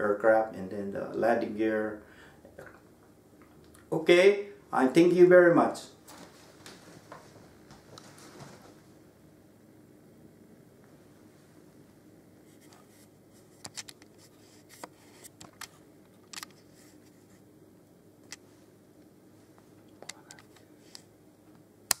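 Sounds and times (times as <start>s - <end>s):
faint room hum: 0.0s - 22.0s.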